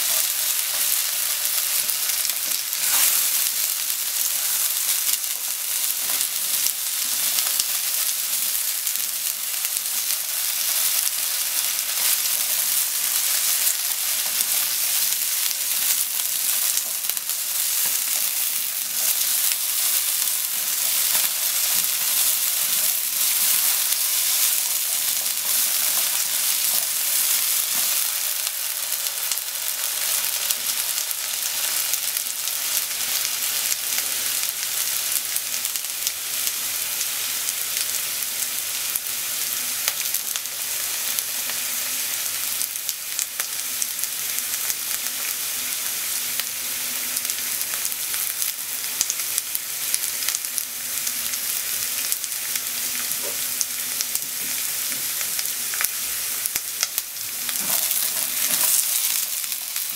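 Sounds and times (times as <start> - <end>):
potatoes sizzling in oil: 0.0 - 59.9.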